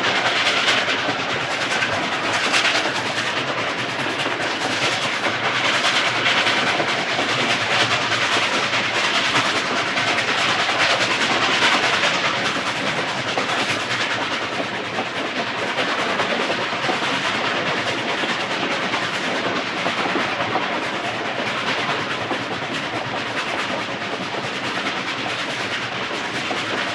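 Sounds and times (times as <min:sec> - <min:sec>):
train cars running on track: 0:00.0 - 0:26.9.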